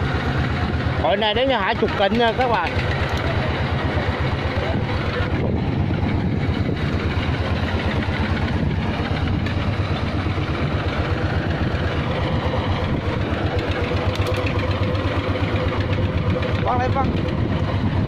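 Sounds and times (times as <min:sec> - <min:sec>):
boat engine throbbing: 0:00.0 - 0:18.0.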